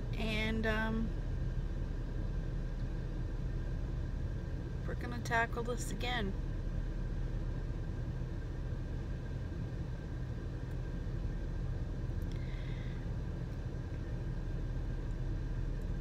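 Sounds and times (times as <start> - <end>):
van engine idling: 0.0 - 16.0.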